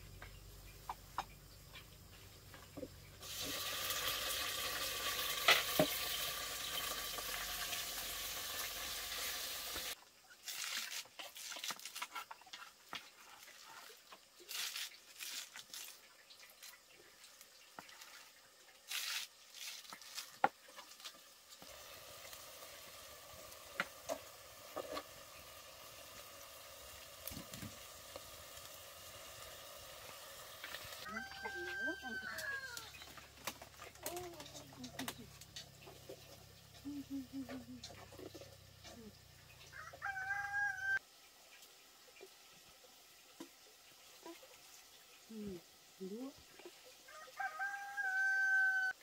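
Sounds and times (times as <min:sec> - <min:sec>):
meat sizzling in a pot: 0:00.8 - 0:49.0.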